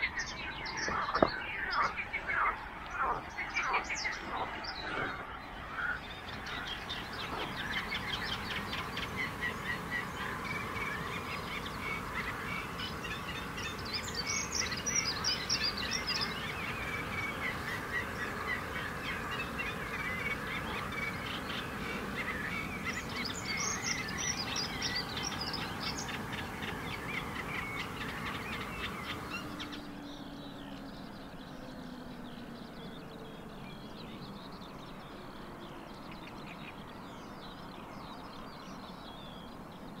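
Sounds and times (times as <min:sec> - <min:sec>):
loud high bird trill: 0:00.0 - 0:37.7
songbirds singing: 0:00.0 - 0:40.0.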